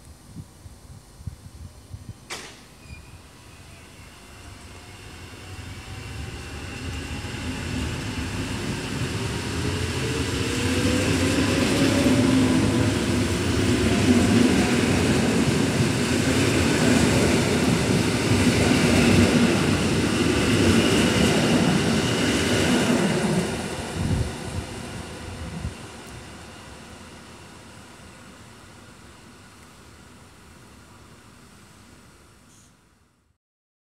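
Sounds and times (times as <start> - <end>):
train wheel and running noise: 0.8 - 32.3.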